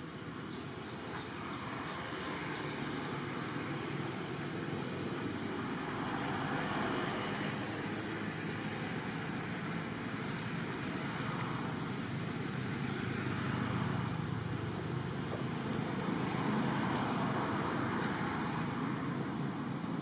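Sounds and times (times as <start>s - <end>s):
rumbling hiss of distant traffic: 0.0s - 20.0s.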